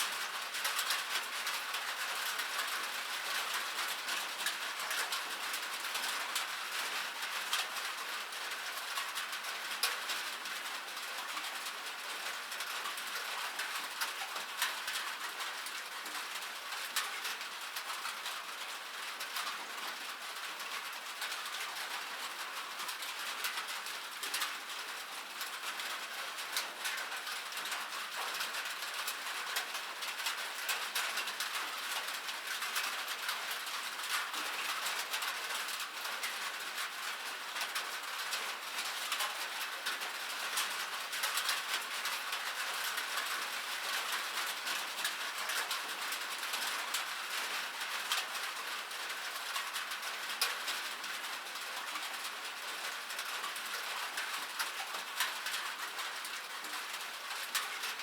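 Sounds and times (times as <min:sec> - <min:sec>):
rain on metal: 0:00.0 - 0:58.0.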